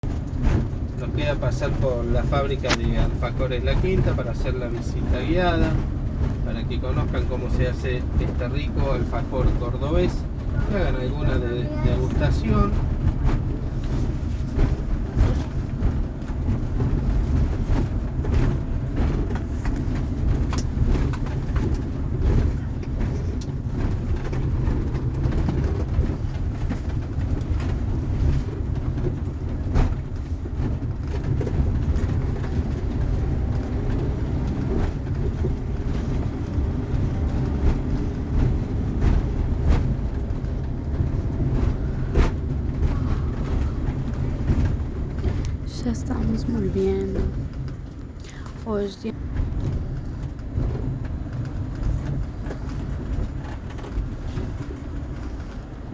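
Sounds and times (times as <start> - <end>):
road and engine rumble: 0.0 - 55.9
small rattles and knocks: 0.0 - 55.9.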